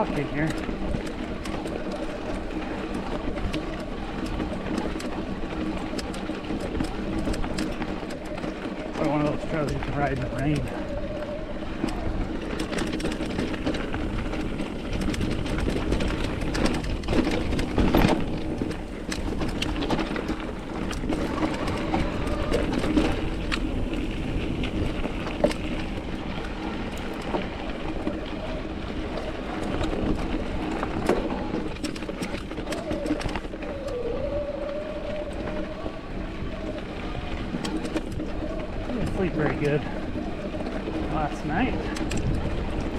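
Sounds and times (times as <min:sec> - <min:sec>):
bike clicks and rattles: 0:00.0 - 0:42.9
bike tyres on rocky trail: 0:00.0 - 0:42.9.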